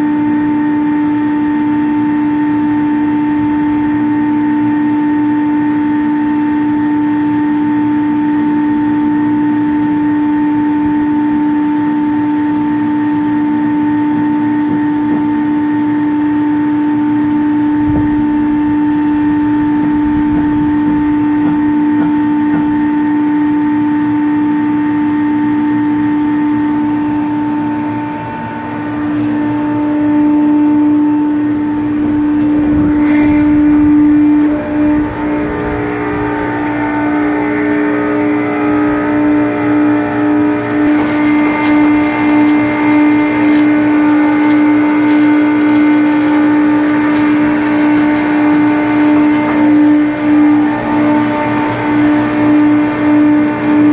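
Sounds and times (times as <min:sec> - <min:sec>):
machinery humming: 0:00.0 - 0:53.9.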